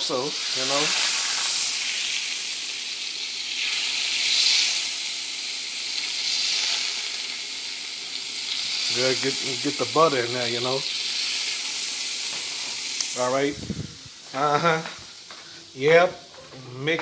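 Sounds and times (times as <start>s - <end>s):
pancakes sizzling in a pan: 0.0s - 16.6s.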